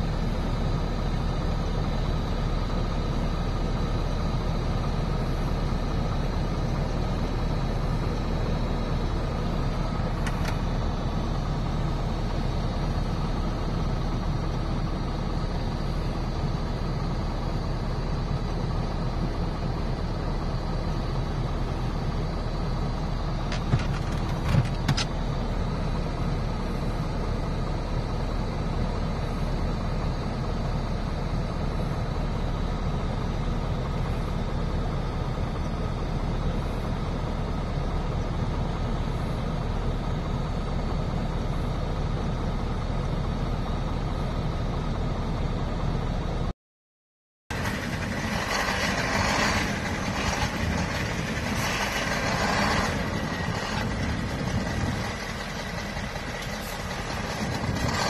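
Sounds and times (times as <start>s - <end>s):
truck diesel engine running: 0.0s - 46.5s, 47.5s - 58.0s.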